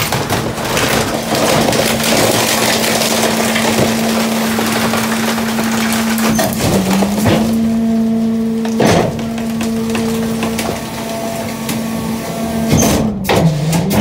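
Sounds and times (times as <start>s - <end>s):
trash crackling and crunching: 0.0s - 14.0s
hydraulic whine: 1.0s - 14.0s.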